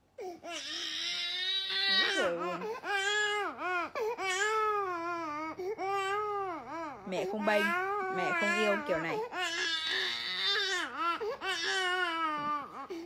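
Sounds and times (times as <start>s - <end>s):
baby crying: 0.2s - 13.0s.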